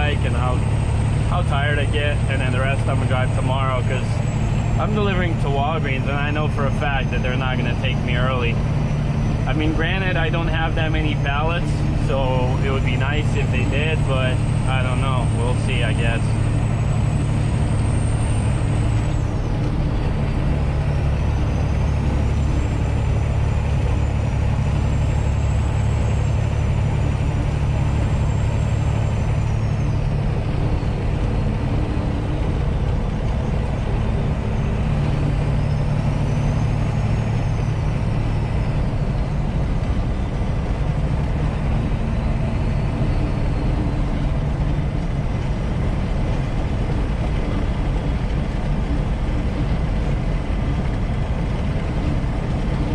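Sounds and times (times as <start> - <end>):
truck engine and road drone: 0.0 - 52.9.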